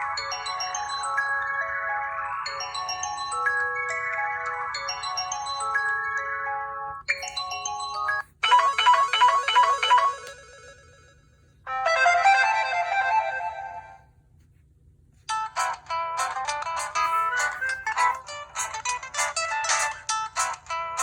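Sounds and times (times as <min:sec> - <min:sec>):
electronic ringtone melodies: 0:00.0 - 0:14.0, 0:15.5 - 0:20.1.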